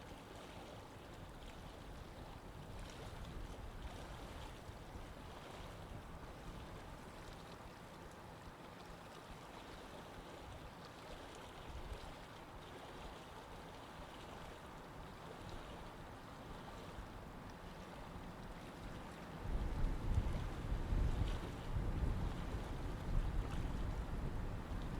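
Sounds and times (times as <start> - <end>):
water flowing in a canal: 0.0 - 24.9.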